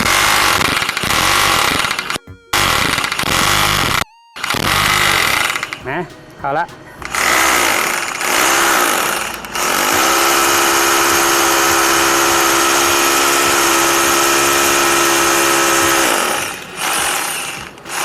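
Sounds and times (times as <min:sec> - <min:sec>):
rotary hammer drill boring into tile: 0:00.0 - 0:05.8, 0:07.0 - 0:18.0.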